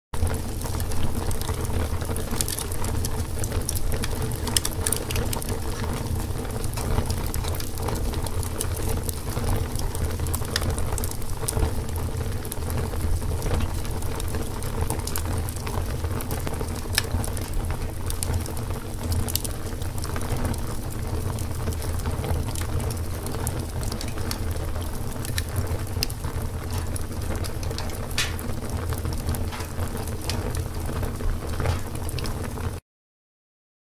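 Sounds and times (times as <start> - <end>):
low rush of flames: 0.2 - 32.8
wood crackling and popping: 0.2 - 32.8.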